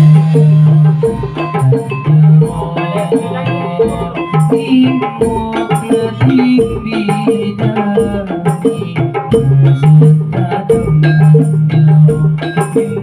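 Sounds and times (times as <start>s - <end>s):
percussion ensemble playing: 0.0s - 13.0s.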